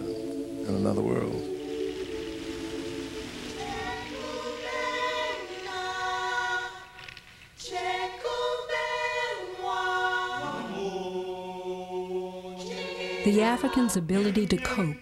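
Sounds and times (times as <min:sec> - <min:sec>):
unaccompanied choir singing: 0:00.0 - 0:15.0.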